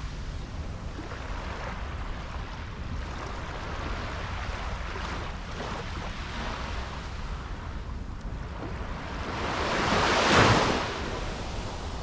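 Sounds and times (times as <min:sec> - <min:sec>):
gentle waves washing on a beach: 0:00.0 - 0:12.0.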